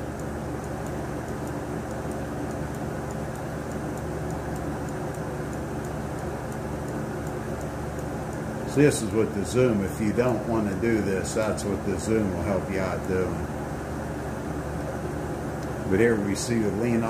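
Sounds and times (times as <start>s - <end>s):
faint ticking: 0.0s - 17.0s
mechanical hum: 0.0s - 17.0s.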